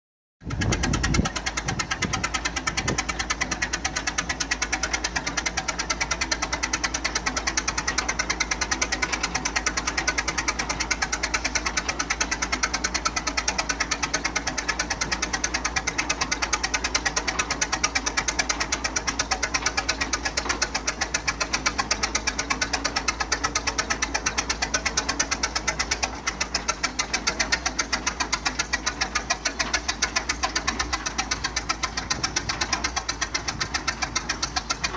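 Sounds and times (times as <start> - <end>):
tractor engine idling: 0.4 - 34.9.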